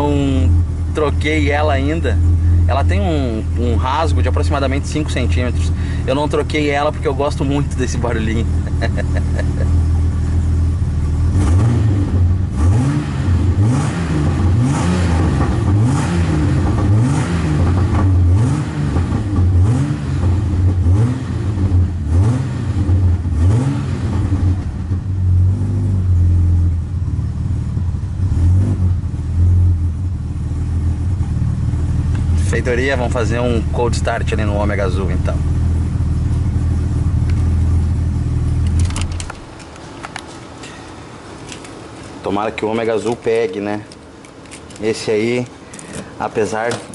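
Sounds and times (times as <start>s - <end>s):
car engine revving and idling: 0.0s - 46.9s.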